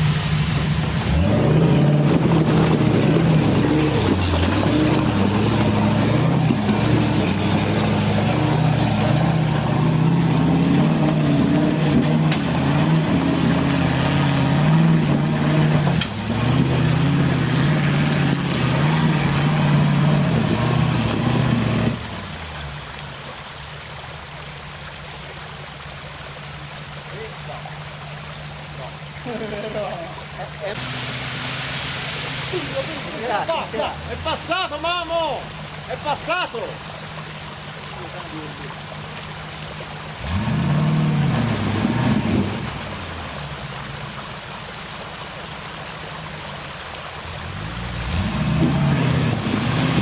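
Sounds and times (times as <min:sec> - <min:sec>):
truck engine revving: 0:00.0 - 0:22.7, 0:27.3 - 0:44.0, 0:47.2 - 0:50.0.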